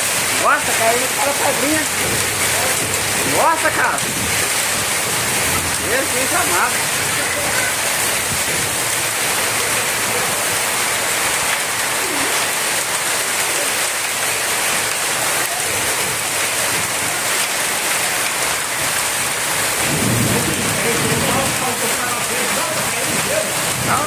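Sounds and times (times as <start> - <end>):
hail falling: 0.0 - 24.0
very heavy rain pouring: 0.0 - 24.0.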